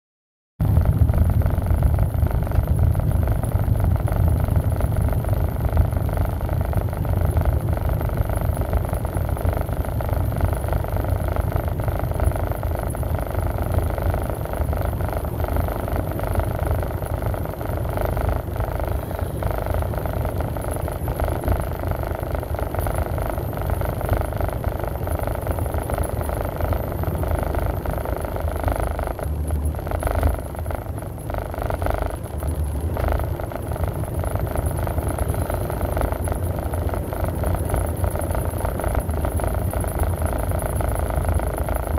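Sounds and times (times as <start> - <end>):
vehicle cabin road rumble: 0.6 - 41.9.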